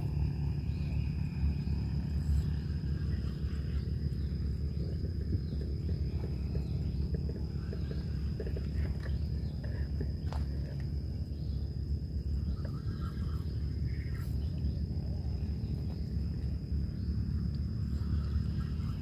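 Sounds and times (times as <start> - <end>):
high insect drone: 0.0 - 19.0
low rumble: 0.0 - 19.0.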